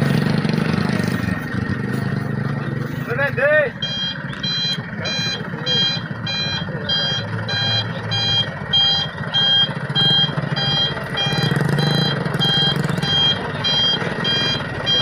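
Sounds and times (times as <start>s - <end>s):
diesel engine running: 0.0s - 15.0s
truck reversing alarm beeping: 0.1s - 15.0s.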